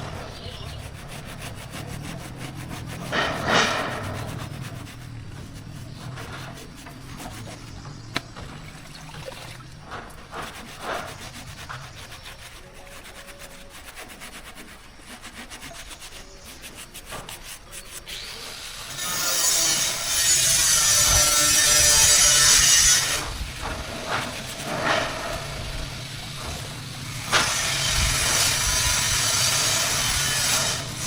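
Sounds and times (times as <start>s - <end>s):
hand scraping a workpiece: 0.0s - 8.5s, 9.8s - 31.0s.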